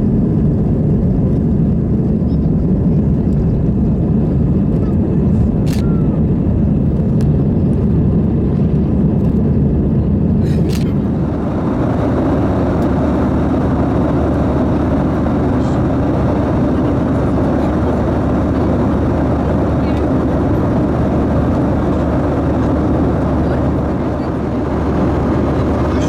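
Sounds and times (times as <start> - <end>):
airplane cabin engine noise: 0.0 - 26.0.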